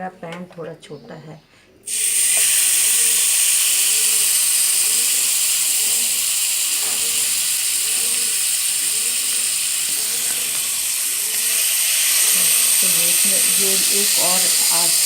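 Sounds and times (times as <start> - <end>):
chicken sizzling in butter: 1.9 - 15.0.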